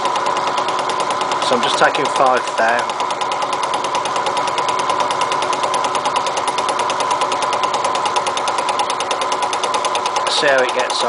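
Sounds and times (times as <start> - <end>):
milling machine cutting steel: 0.0 - 11.0.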